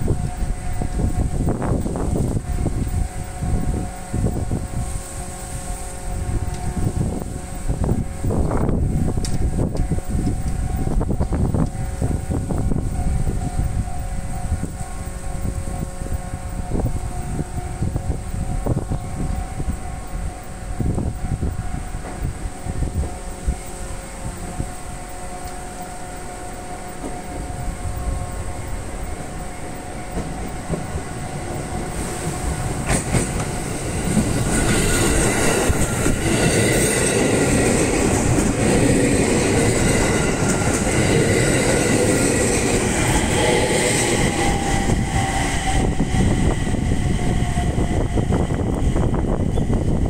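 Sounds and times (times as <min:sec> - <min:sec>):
level crossing alarm ringing: 0:00.0 - 0:48.0
train wheels clattering on rails: 0:00.0 - 0:50.0.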